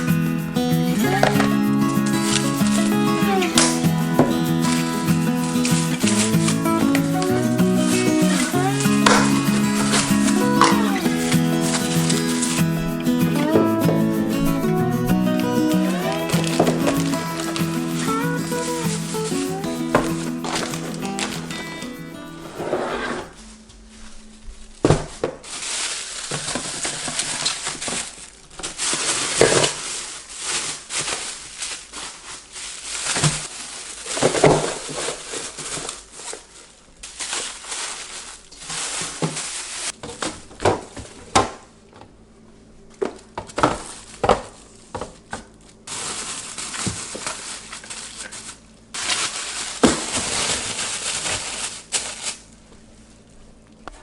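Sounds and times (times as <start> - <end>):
plastic bags rustling: 0.0 - 41.3, 43.5 - 53.2.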